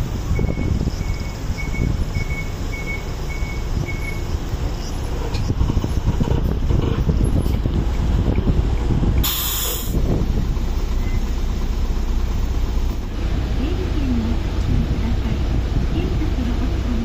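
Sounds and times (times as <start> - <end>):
wind on microphone: 0.0 - 10.7, 13.7 - 17.0
bus engine rumbling: 0.0 - 17.0.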